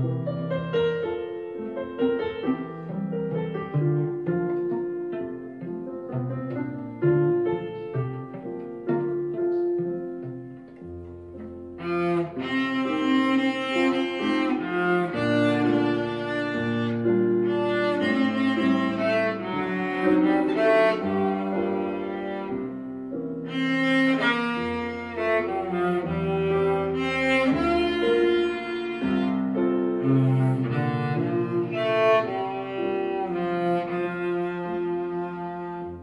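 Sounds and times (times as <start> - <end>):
cello playing slow melody: 0.0 - 36.0.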